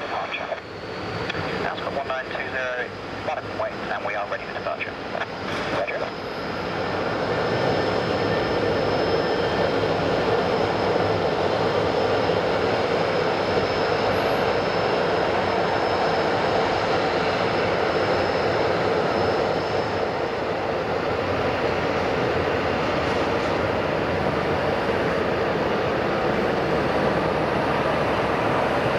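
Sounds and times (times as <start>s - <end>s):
high-pitched engine whine: 0.0s - 28.9s
jet engines rushing hum: 0.0s - 28.9s.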